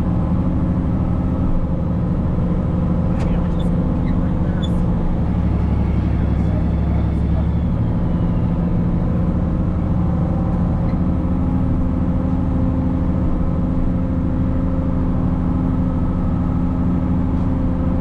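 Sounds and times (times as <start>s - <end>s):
tractor diesel engine droning: 0.0s - 18.0s.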